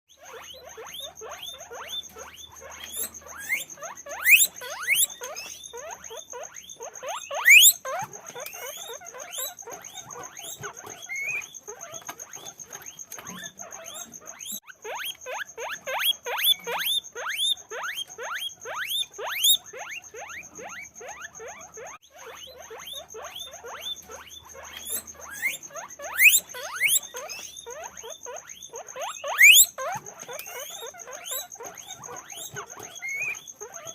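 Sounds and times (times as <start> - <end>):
guinea pigs squeaking: 0.1 - 33.9.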